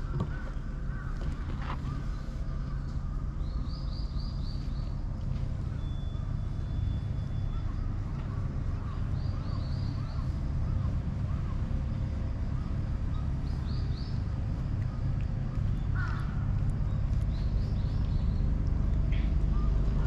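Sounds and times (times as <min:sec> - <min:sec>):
birds calling: 0:00.0 - 0:20.0
steady low rumble: 0:00.0 - 0:20.0.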